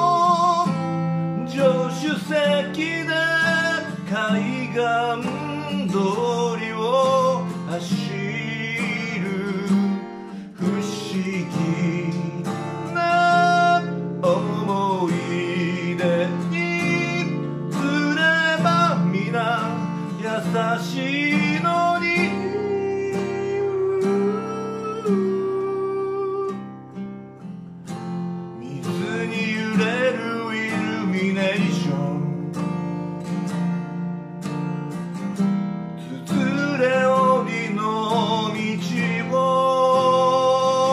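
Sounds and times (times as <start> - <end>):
man singing: 0.0 - 26.8, 28.5 - 32.9, 36.0 - 40.9
strummed acoustic guitar: 0.0 - 40.9.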